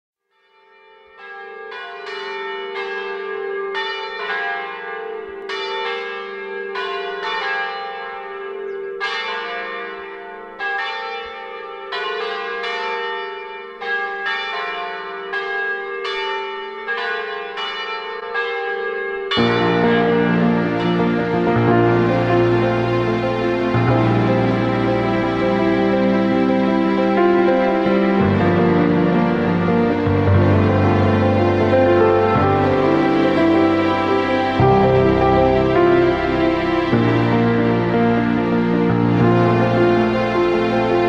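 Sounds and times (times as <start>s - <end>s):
church bells ringing: 0.3s - 41.0s.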